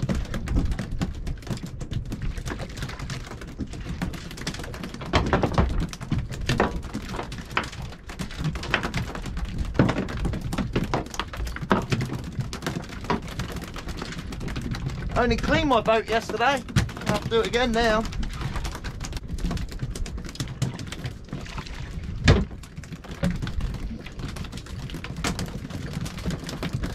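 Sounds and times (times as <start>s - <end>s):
low rumble of wind: 0.0s - 26.9s.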